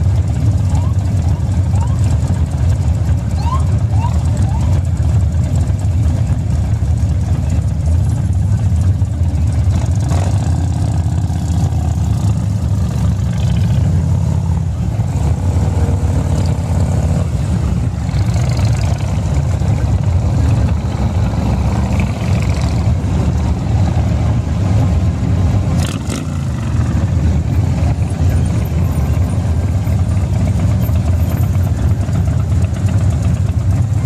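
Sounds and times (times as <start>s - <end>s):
motorcycle engines droning: 0.0s - 34.0s.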